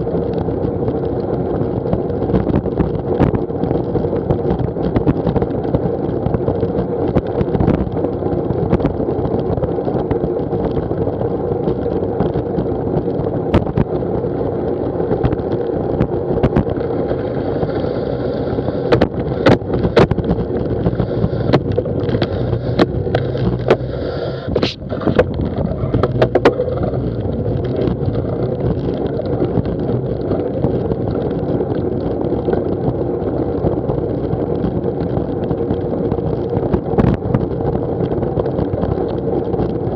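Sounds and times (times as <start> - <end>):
sharp clicks and rattles: 0.0 - 39.9
tyre noise on tarmac: 0.0 - 39.9
wind rushing over microphone: 0.0 - 39.9.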